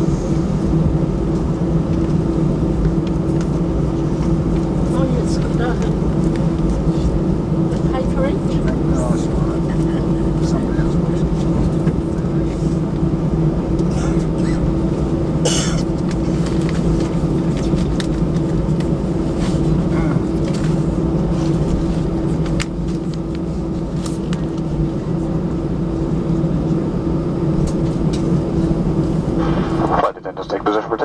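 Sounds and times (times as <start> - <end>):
jet engines droning in cabin: 0.0 - 31.0.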